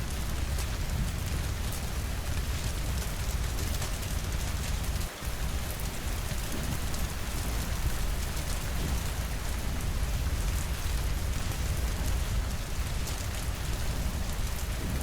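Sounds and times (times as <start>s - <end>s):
rain against windows: 0.0s - 15.0s.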